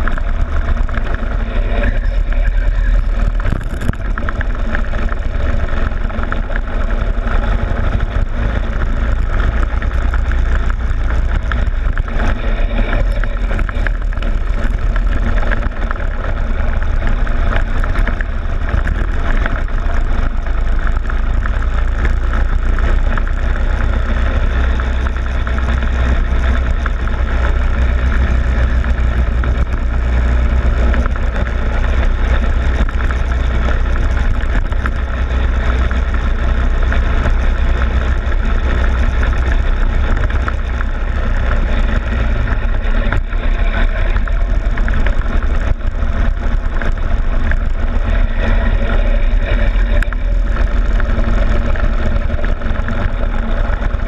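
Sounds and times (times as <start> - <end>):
go-kart engine running: 0.0 - 54.0
vibration rattle of camera mount: 3.0 - 54.0.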